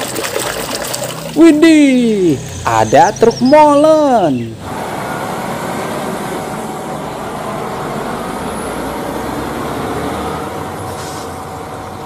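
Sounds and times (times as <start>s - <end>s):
street noise: 0.0s - 12.0s
truck diesel engine rumbling: 1.4s - 12.0s.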